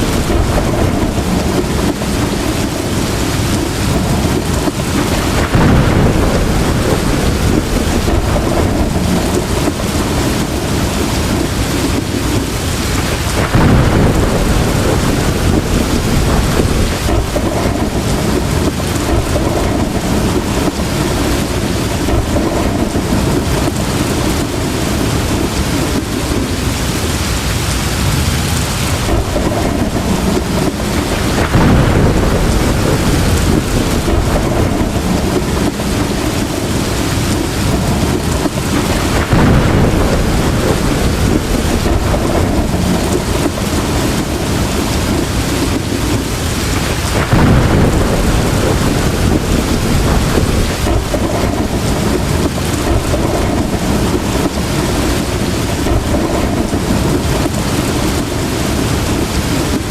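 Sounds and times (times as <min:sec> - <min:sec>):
heavy rain falling: 0:00.0 - 0:59.9
thunder rolling: 0:00.0 - 0:59.9.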